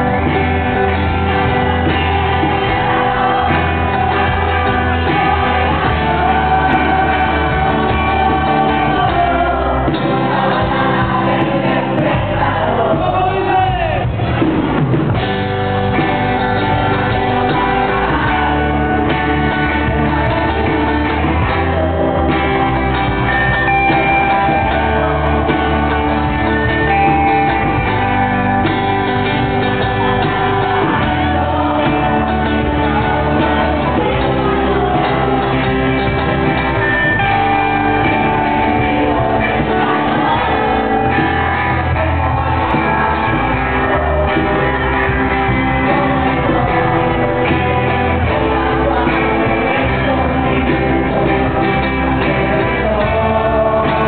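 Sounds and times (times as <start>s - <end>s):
person singing: 0.0s - 14.5s, 15.9s - 54.0s
live band playing: 0.0s - 54.0s.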